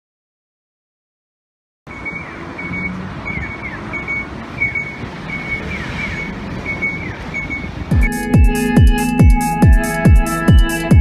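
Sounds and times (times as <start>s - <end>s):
crossing signal chirping: 1.9s - 11.0s
steady rumble: 1.9s - 11.0s.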